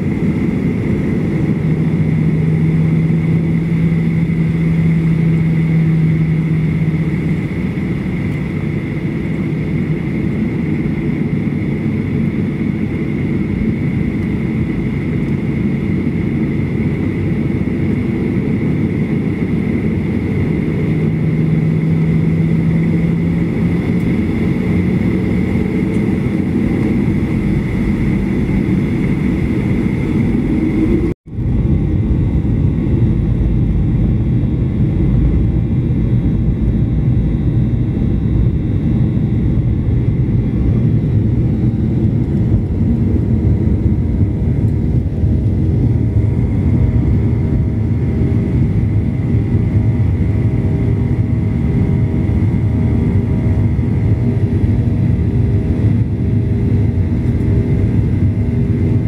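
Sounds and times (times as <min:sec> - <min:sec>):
jet engine cabin rumble: 0:00.0 - 0:59.0
low hum: 0:00.0 - 0:59.0.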